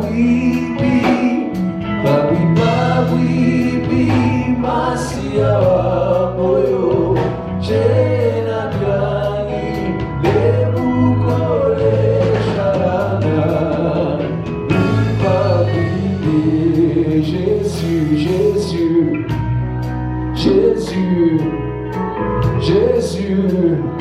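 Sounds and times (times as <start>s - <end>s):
person singing: 0.0s - 19.6s, 20.3s - 24.0s
drums and cymbals: 0.0s - 20.0s
bass line: 0.0s - 24.0s.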